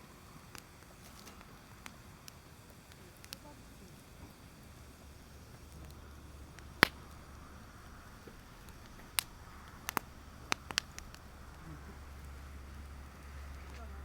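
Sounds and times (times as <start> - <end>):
faint steady hiss: 0.0 - 14.0
wood fire crackling: 0.0 - 14.0.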